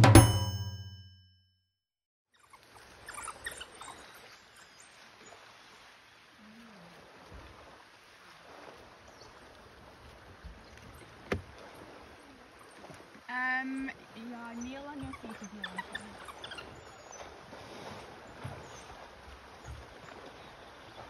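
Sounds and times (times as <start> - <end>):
river water trickling: 2.3 - 21.0.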